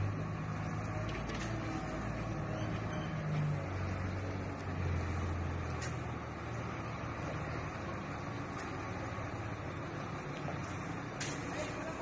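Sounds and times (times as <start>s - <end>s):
diesel truck engine reversing: 0.0s - 12.0s.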